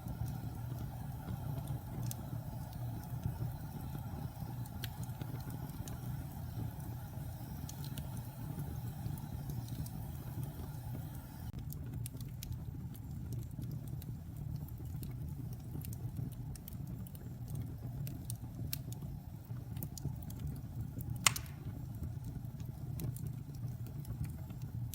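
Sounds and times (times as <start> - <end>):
burning wood crackling and popping: 0.0 - 24.9
low rumble of fire: 0.0 - 24.9.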